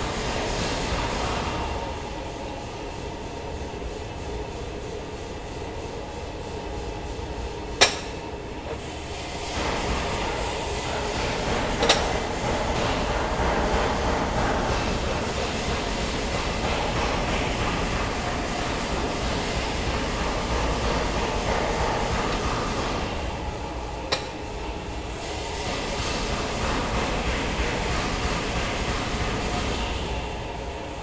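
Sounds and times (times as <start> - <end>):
workshop mechanical rumble: 0.0 - 31.0.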